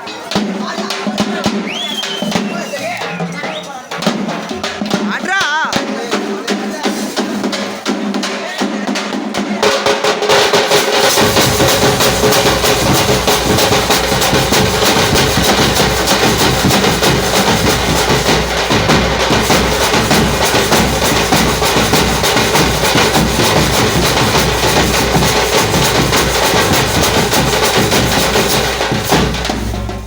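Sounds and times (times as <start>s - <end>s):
drum group playing fast beat: 0.0s - 30.0s.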